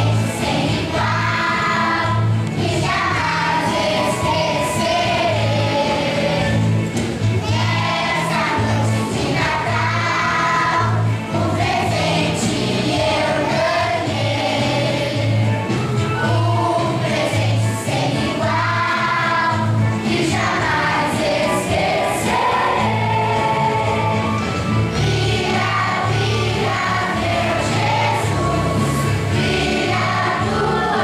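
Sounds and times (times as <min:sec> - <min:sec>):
children's choir singing: 0:00.0 - 0:31.0.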